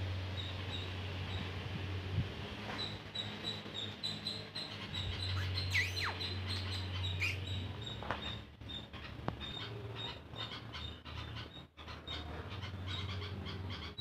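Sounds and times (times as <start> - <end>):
birds chirping: 0.3 - 1.6, 2.8 - 14.0.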